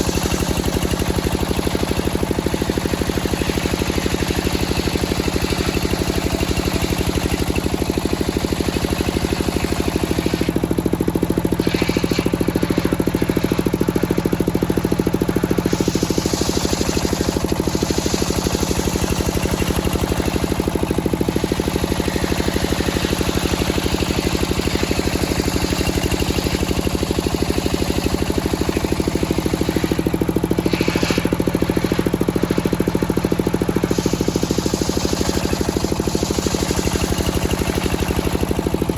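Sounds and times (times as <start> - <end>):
sawmill engine droning: 0.0 - 38.9.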